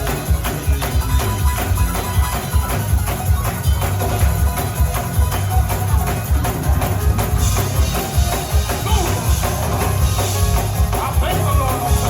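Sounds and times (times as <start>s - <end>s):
live gospel band music: 0.0s - 12.0s.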